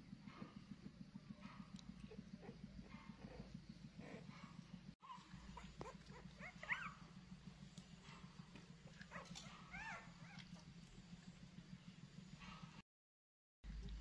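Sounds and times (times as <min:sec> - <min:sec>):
low steady hum: 0:00.0 - 0:12.8, 0:13.6 - 0:14.0.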